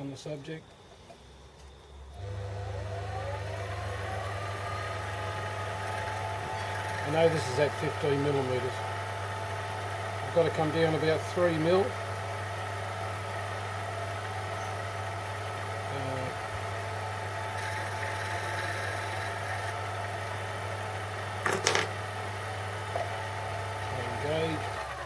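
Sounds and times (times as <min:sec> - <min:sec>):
metal lathe motor hum: 0:00.6 - 0:25.0.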